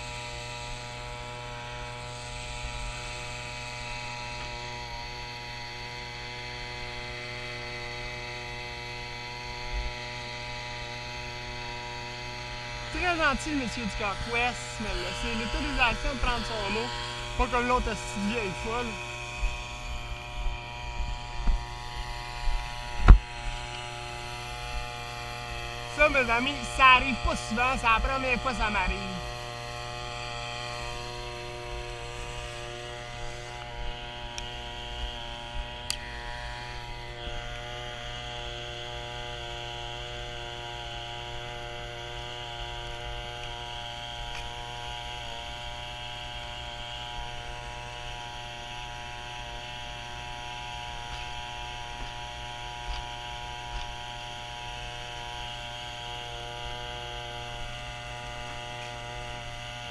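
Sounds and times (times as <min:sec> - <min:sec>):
electric motor hum and whine: 0:00.0 - 0:59.9.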